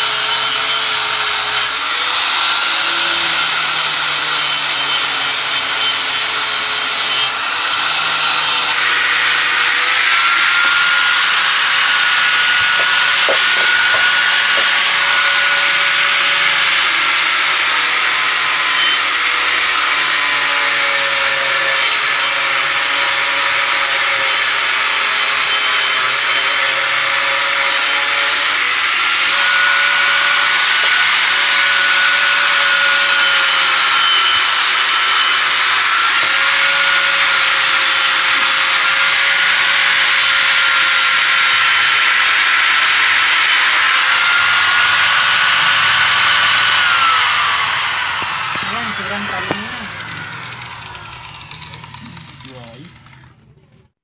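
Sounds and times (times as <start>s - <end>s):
angle grinder grinding metal: 0.0s - 53.6s.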